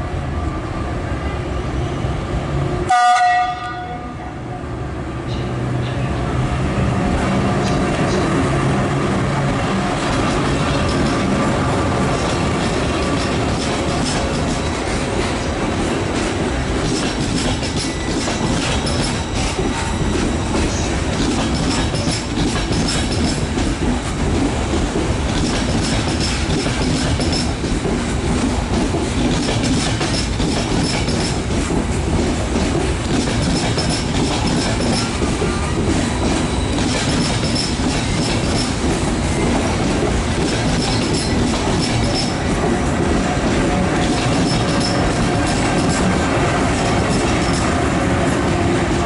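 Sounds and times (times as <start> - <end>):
train wheels clattering over rail joints: 9.6 - 49.0.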